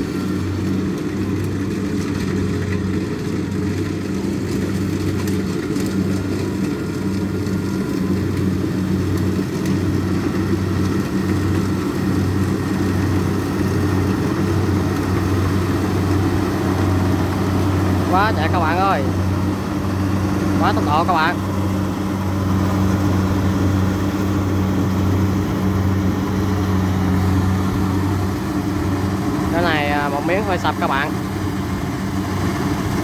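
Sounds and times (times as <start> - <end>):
combine harvester diesel drone: 0.0 - 33.0.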